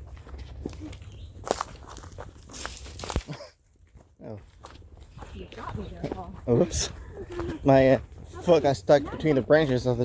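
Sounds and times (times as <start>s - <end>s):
footsteps crunching on twigs: 0.0s - 10.0s.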